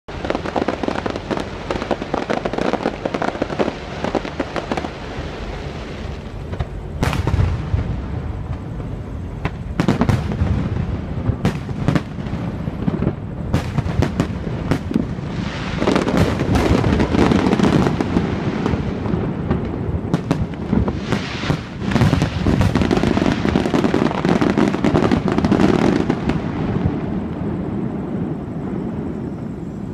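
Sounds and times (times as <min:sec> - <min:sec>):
fireworks crackling: 0:00.1 - 0:29.9.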